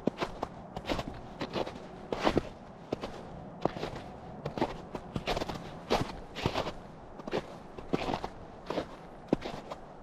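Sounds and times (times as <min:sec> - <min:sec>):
footsteps in snow: 0:00.0 - 0:10.0.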